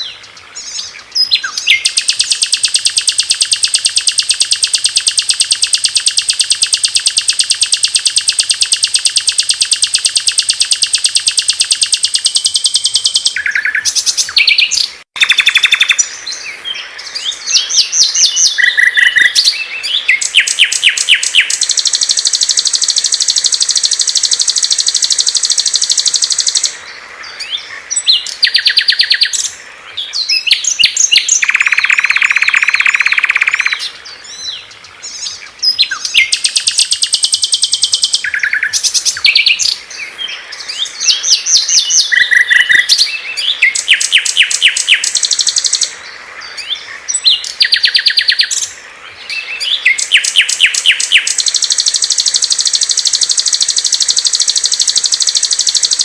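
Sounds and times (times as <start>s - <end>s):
songbirds trilling and chirping: 0.0s - 56.0s.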